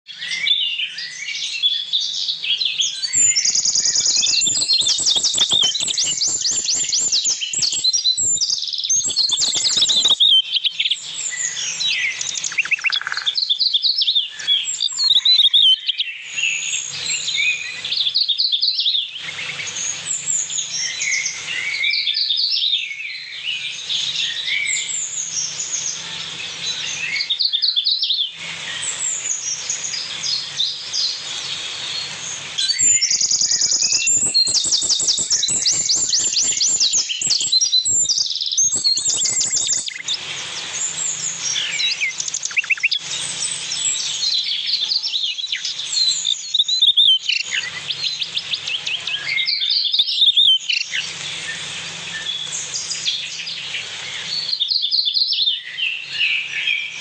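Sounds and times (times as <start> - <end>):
birds chirping and singing: 0.1 - 57.0
bird trills: 2.3 - 40.2, 40.8 - 57.0.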